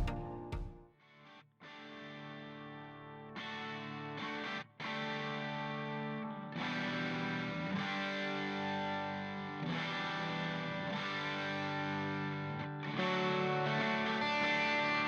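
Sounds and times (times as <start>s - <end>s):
distorted electric guitar chords: 0.0s - 0.8s, 2.2s - 15.0s.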